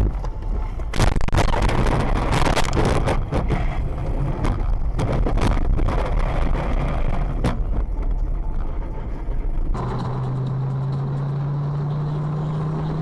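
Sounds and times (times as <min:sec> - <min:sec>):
vehicle road and wind rumble: 0:00.0 - 0:13.0.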